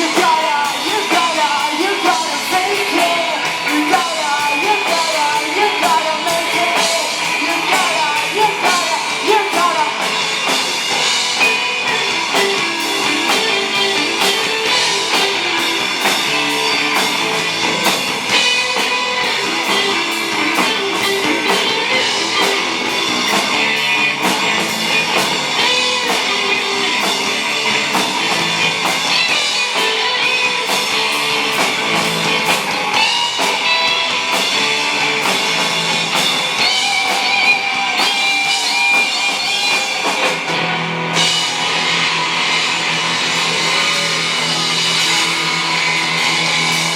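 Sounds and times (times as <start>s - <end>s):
drum kit beat: 0.0s - 46.9s
rock band playing live: 0.0s - 46.9s.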